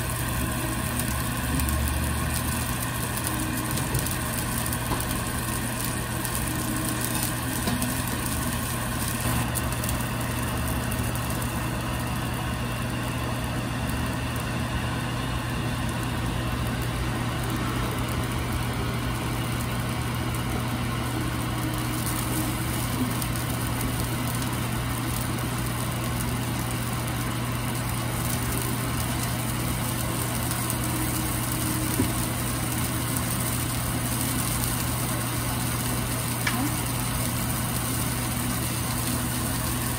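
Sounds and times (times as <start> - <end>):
egg sizzling on a griddle: 0.0 - 39.9
low machine hum: 0.0 - 39.9.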